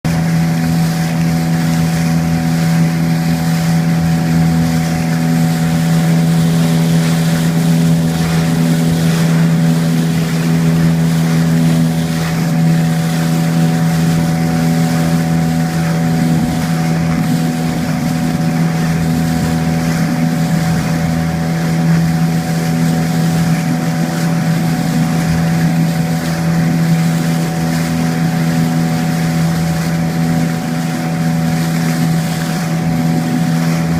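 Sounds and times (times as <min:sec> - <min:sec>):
boat engine running: 0:00.0 - 0:33.9
water noise: 0:00.0 - 0:33.9
wind: 0:00.0 - 0:33.9.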